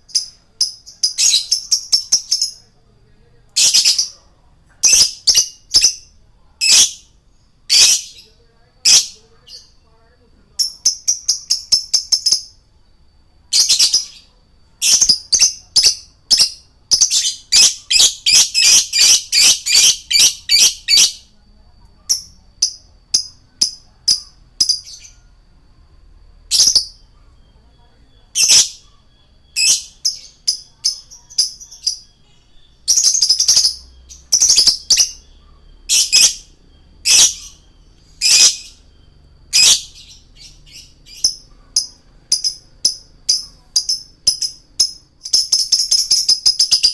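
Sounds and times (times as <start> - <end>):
lovebird shrill chirps: 0.1 - 2.7, 3.6 - 4.2, 4.8 - 9.8, 13.5 - 21.3, 22.0 - 25.3, 26.5 - 46.9.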